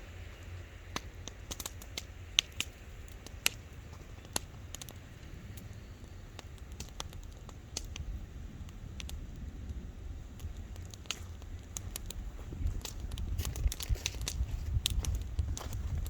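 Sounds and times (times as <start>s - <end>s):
bonfire crackling: 0.0s - 16.0s
low rumble: 2.1s - 16.0s.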